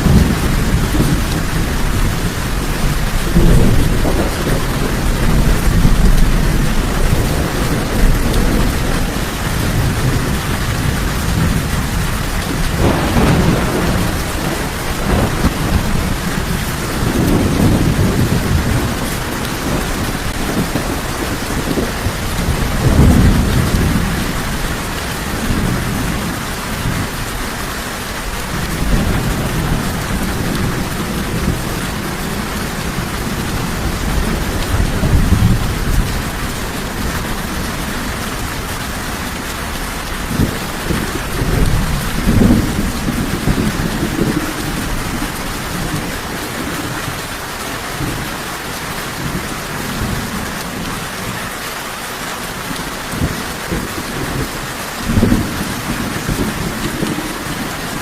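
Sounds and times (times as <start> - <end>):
low thunder rumbling: 0.0 - 51.6, 52.6 - 58.0
heavy rain: 0.0 - 58.0.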